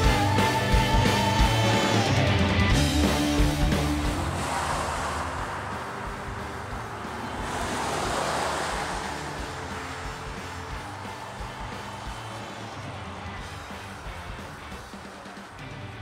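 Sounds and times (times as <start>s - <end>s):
rock guitar music: 0.0s - 16.0s
vehicles passing on a highway: 0.0s - 16.0s.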